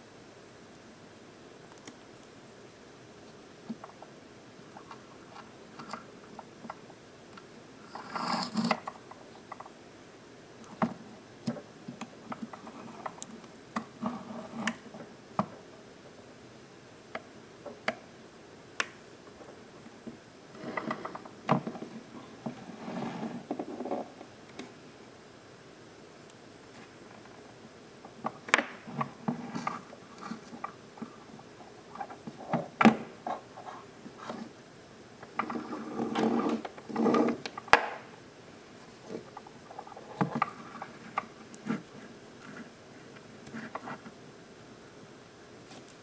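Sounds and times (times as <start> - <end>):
faint steady hiss: 0.0 - 46.0.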